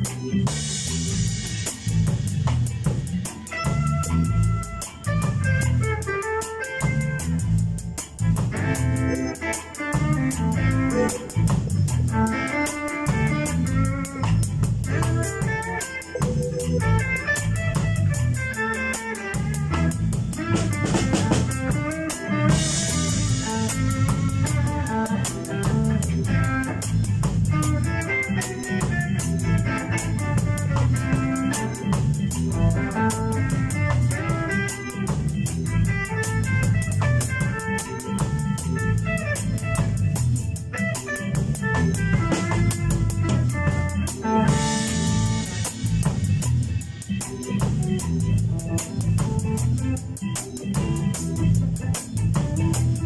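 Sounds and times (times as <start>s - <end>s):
live reggae band playing: 0.0s - 53.0s.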